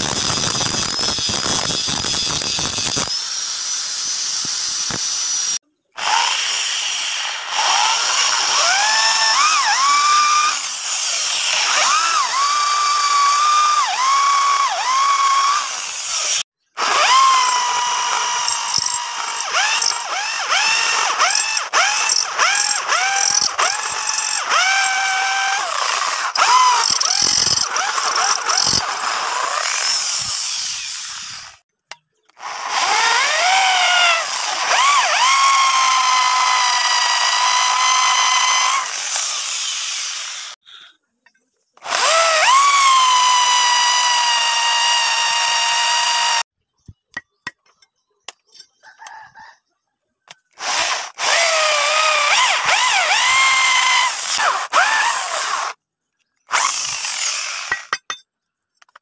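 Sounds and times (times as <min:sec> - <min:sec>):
electric drill boring through metal: 0:00.0 - 0:31.6, 0:32.3 - 0:40.6, 0:41.8 - 0:46.5, 0:50.5 - 0:55.8, 0:56.5 - 0:58.1.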